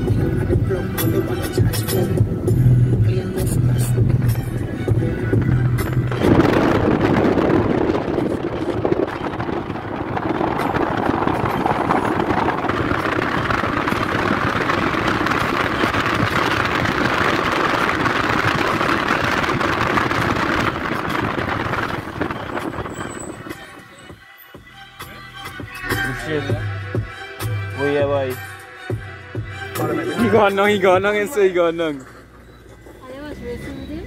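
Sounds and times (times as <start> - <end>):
car rushing along road: 0.0 - 24.2, 29.8 - 34.0.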